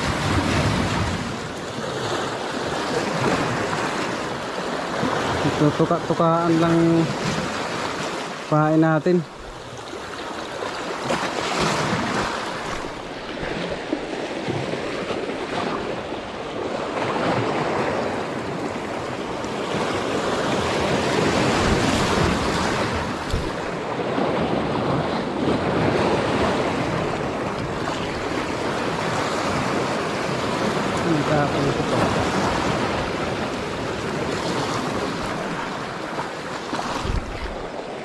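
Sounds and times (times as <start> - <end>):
sea waves washing onto shore: 0.0 - 38.0.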